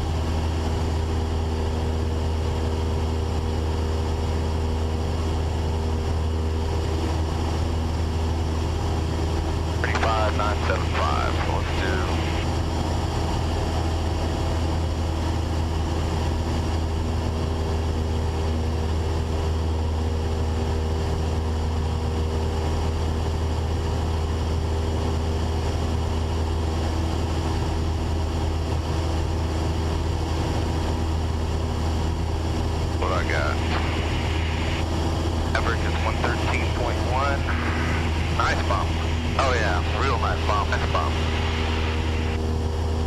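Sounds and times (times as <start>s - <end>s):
propeller plane engine droning: 0.0s - 43.0s.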